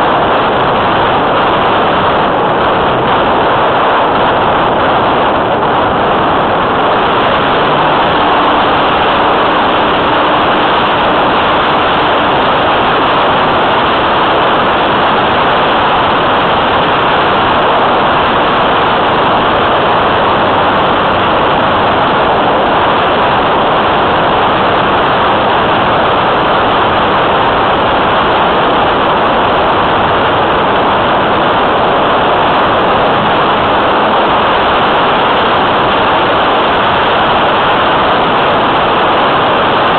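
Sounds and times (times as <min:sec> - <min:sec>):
rushing airflow and motor: 0:00.0 - 0:39.9.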